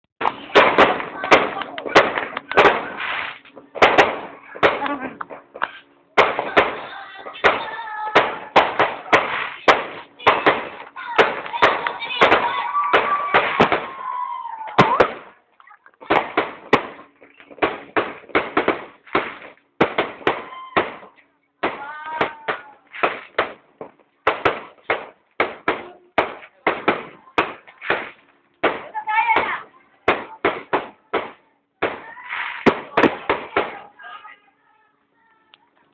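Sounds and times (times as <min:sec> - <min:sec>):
fireworks and firecrackers banging: 0:00.2 - 0:15.4, 0:16.0 - 0:34.4.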